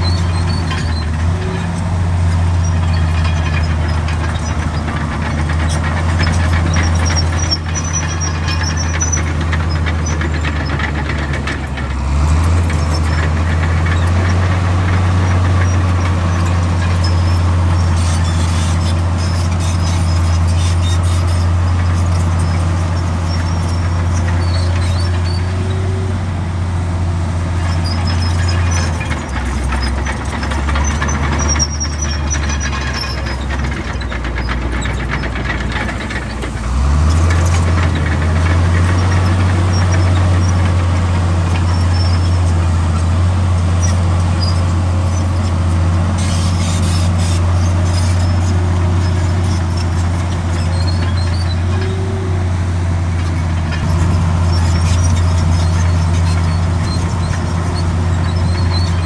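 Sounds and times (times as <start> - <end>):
bulldozer diesel engine running: 0.0 - 59.0
steel tracks squeaking: 0.0 - 59.0.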